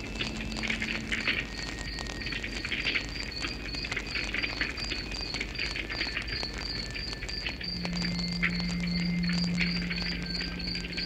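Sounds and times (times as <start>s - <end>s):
campfire crackling: 0.0s - 11.0s
crickets chirping: 0.0s - 11.0s.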